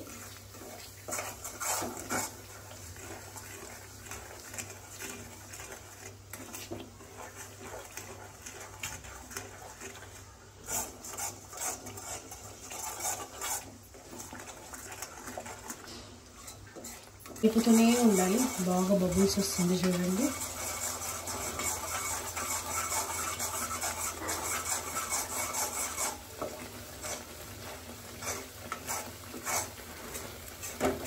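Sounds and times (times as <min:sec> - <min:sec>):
spatula scraping a pan: 0:00.0 - 0:31.0.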